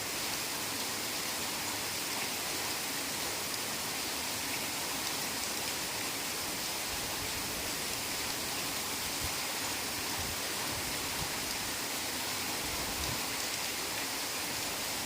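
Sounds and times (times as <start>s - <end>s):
heavy rain on forest: 0.0s - 15.0s.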